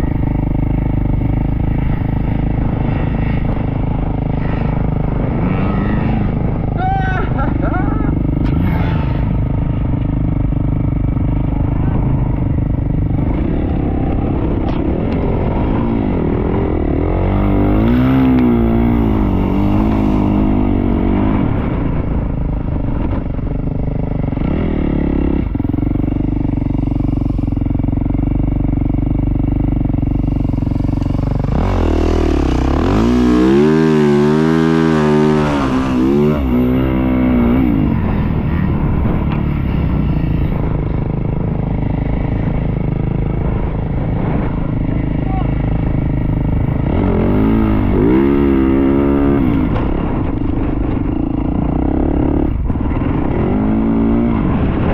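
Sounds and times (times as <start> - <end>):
dirt bike engine revving: 0.0 - 23.2, 24.2 - 54.9.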